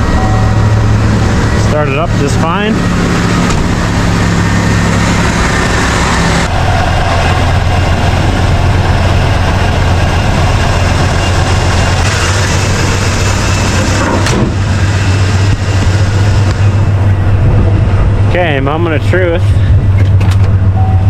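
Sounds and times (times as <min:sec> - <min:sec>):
pickup engine idling: 0:00.0 - 0:20.9.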